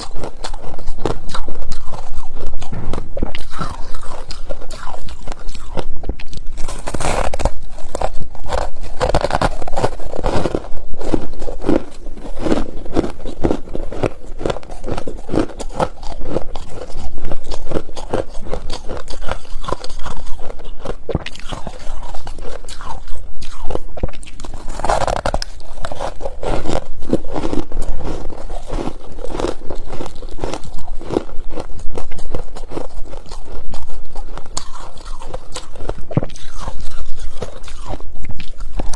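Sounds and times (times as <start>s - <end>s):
crunching and chewing frost: 0.0s - 38.9s.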